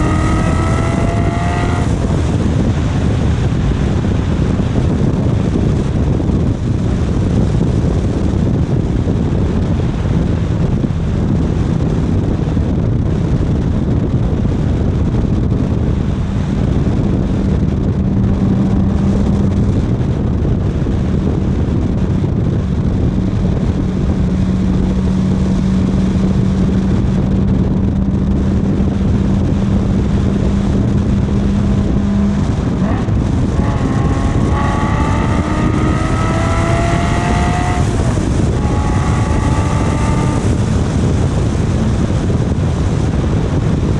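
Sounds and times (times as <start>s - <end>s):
road rumble: 0.0s - 43.9s
vehicle engine running: 0.0s - 43.9s
wind noise on microphone: 0.0s - 43.9s.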